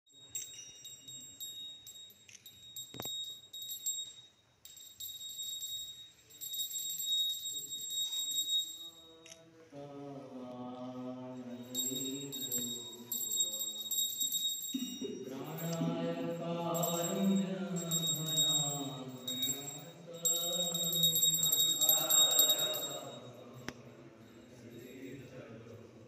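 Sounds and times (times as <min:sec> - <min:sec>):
bells ringing rapidly: 0:00.1 - 0:09.2, 0:11.5 - 0:25.4.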